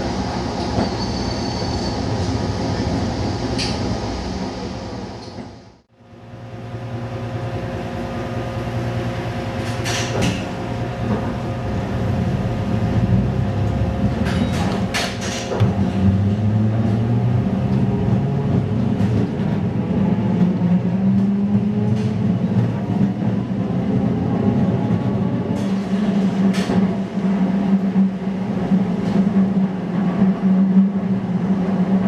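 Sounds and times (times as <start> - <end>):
streetcar motor hum: 0.0 - 32.0.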